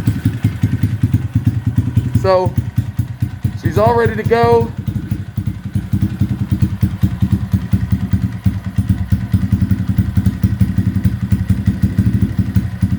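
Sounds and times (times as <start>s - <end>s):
motorbike engine idling: 0.0s - 12.9s.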